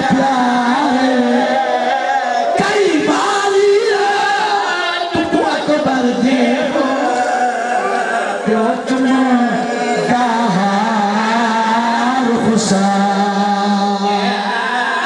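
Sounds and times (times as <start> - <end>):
man singing a wordless lament: 0.0 - 15.0.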